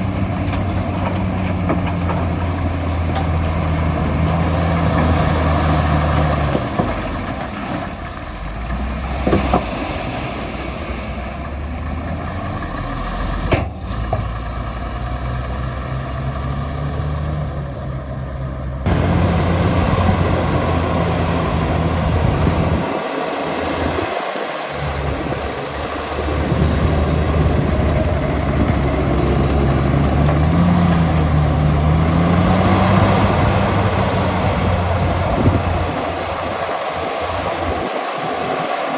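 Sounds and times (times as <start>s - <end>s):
diesel machinery engine hum: 0.0s - 38.9s.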